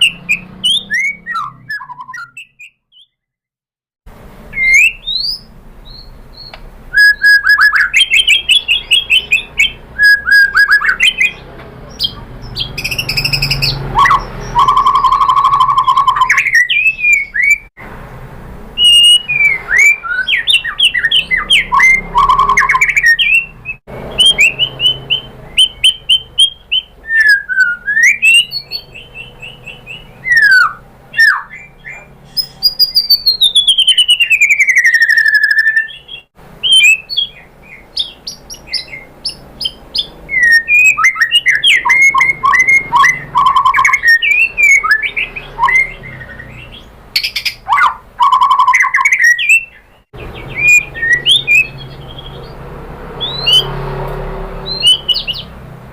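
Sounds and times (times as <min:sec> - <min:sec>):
bird whistle sliding downward: 0:00.0 - 0:02.8, 0:04.6 - 0:05.5, 0:06.4 - 0:11.4, 0:12.8 - 0:17.7, 0:18.8 - 0:31.7, 0:32.3 - 0:37.3, 0:38.7 - 0:49.8, 0:50.4 - 0:52.4, 0:53.2 - 0:53.9, 0:54.6 - 0:55.4
bird singing chirps and trills: 0:00.0 - 0:03.2, 0:04.5 - 0:17.7, 0:18.8 - 0:55.6.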